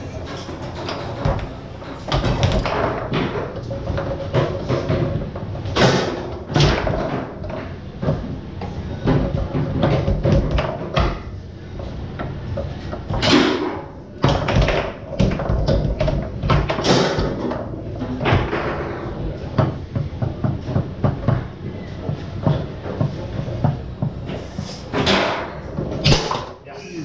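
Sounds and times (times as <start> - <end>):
foosball clacks and knocks: 0.0 - 26.6.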